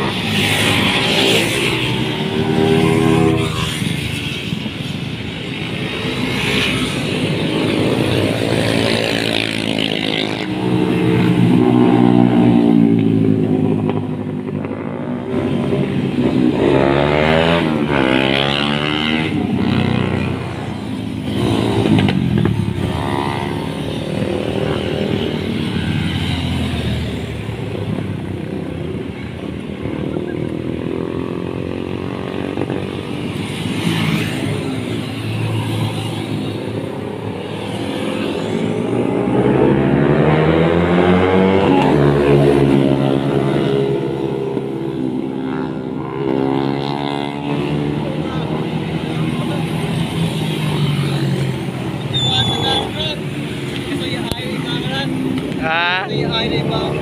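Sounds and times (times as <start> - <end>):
motorcycles revving past: 0.0 - 57.0.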